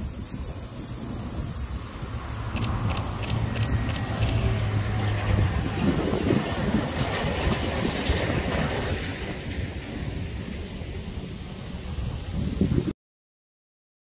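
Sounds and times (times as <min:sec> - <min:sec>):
low hum of approaching train: 0:00.0 - 0:12.9
train passing with rumble: 0:00.0 - 0:12.9.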